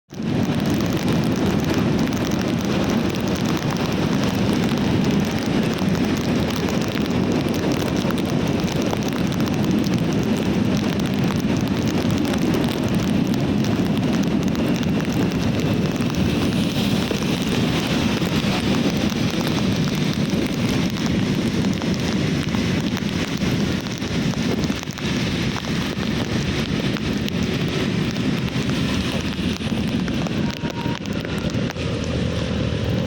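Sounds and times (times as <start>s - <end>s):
heavy rain pouring: 0.1s - 33.0s.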